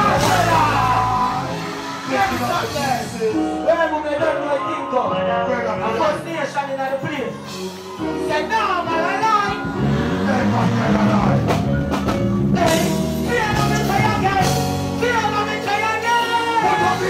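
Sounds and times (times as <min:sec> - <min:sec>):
man deejaying into microphone: 0:00.0 - 0:07.4, 0:08.2 - 0:11.7, 0:12.4 - 0:17.0
dancehall backing track: 0:00.0 - 0:17.0.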